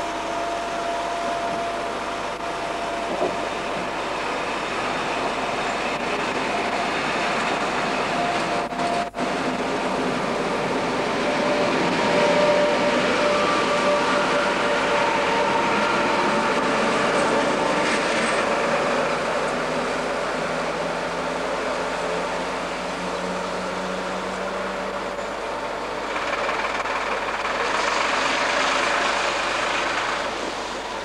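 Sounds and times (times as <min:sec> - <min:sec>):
locomotive steady tones: 0:00.0 - 0:31.0
train wheels rumbling on rails: 0:00.0 - 0:31.0.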